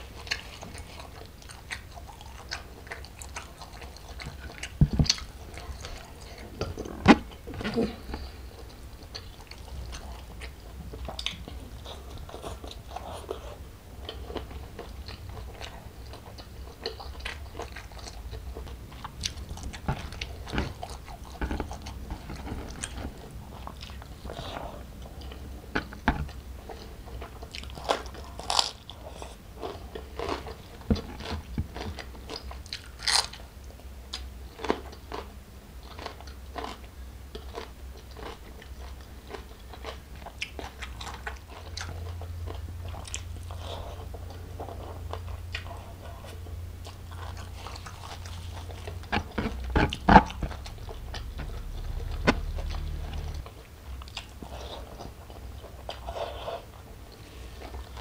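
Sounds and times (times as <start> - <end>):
person chewing with wet mouth sounds: 0.0 - 58.0.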